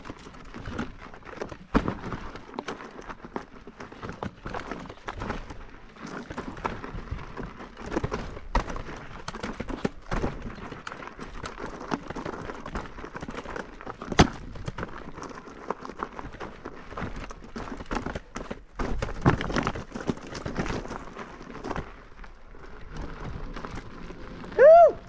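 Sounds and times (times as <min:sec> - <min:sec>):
tyre rolling over gravel: 0:00.0 - 0:25.0.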